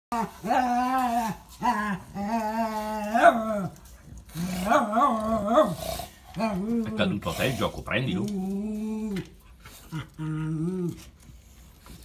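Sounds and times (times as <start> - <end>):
dogs play growling: 0.1 - 12.0.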